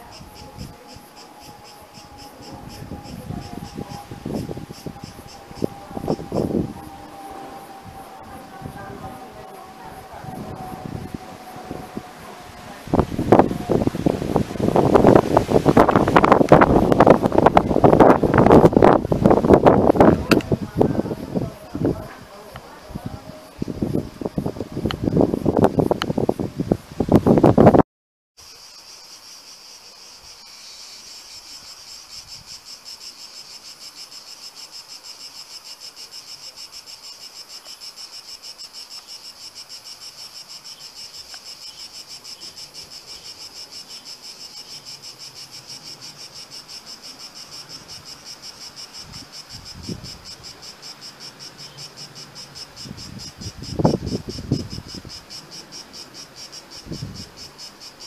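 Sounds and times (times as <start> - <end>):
insects chirring: 0.0 - 27.8, 28.4 - 58.0.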